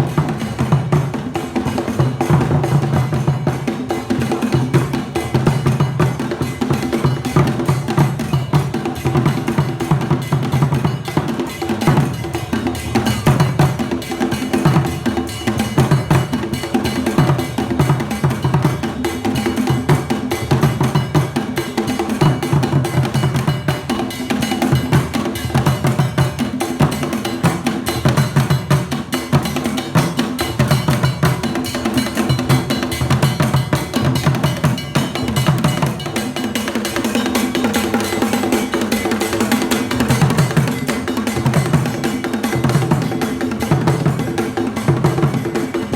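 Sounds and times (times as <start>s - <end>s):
drum ensemble playing fast rhythm: 0.0s - 45.9s.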